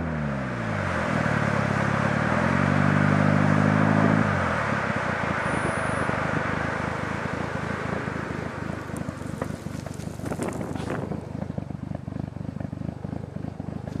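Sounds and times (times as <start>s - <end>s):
car engine exhaust pulsing: 0.0s - 14.0s.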